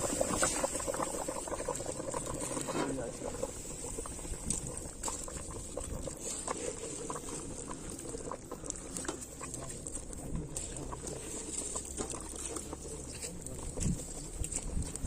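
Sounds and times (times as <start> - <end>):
water bubbling at a boil: 0.0 - 15.0
wood fire popping and crackling: 0.0 - 15.0.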